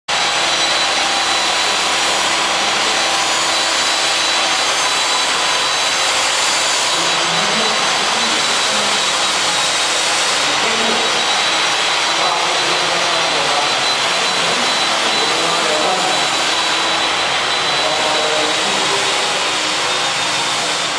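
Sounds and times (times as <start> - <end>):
thin high whine: 0.1 - 20.9
loud steady hiss: 0.2 - 20.9.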